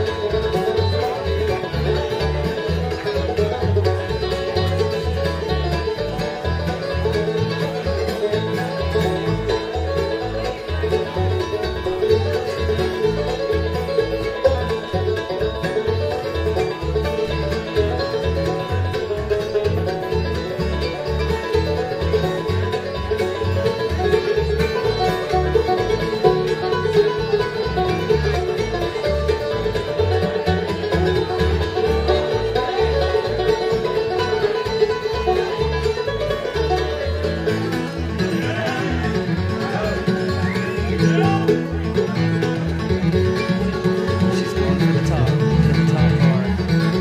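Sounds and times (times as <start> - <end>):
bluegrass music: 0.0 - 47.0.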